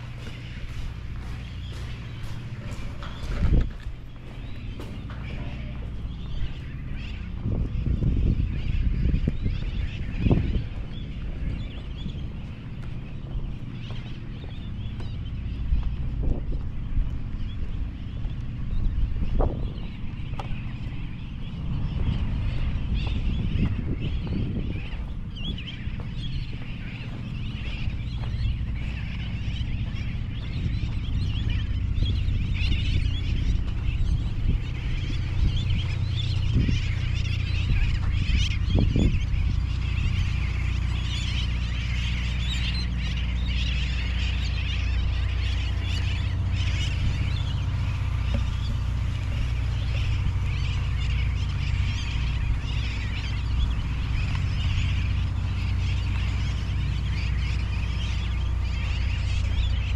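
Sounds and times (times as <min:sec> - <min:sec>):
seabirds calling: 0:00.0 - 0:59.9
steady low rumble: 0:00.0 - 0:59.9.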